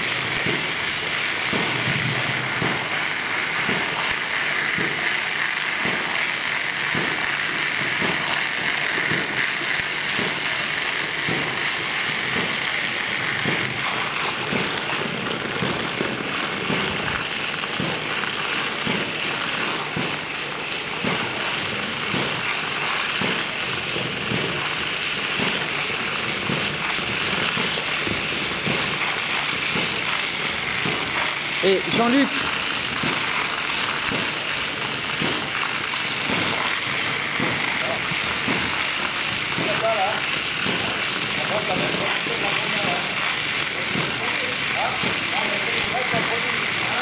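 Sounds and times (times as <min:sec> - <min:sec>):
foam spraying from nozzle: 0:00.0 - 0:47.0.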